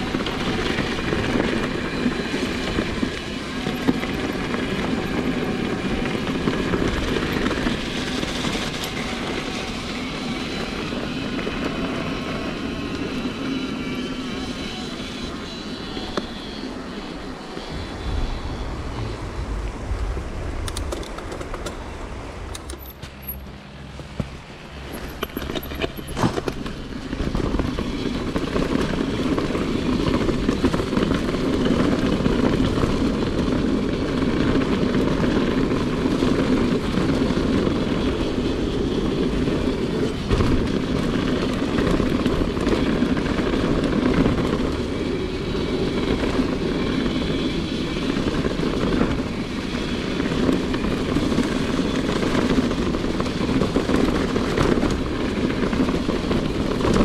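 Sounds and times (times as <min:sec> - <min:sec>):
bike tyres rumbling on rough track: 0:00.0 - 0:57.0
wind on microphone: 0:00.0 - 0:57.0.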